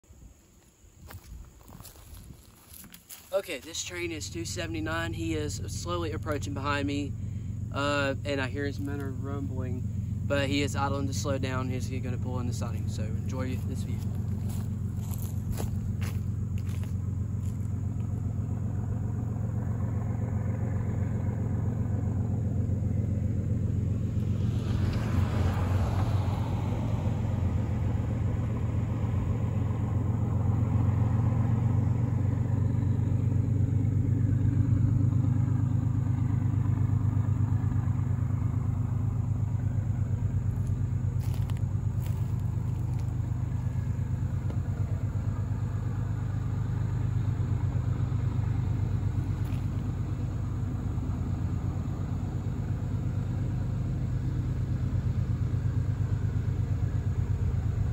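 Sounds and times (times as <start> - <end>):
diesel locomotives rumbling: 0.0 - 57.9.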